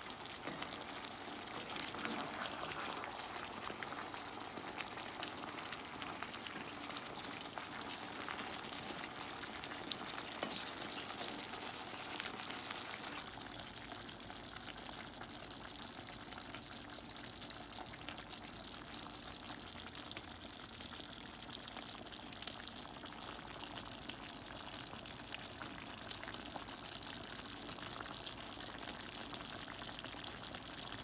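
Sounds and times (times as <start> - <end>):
thick sauce bubbling in a pan: 0.0 - 31.0.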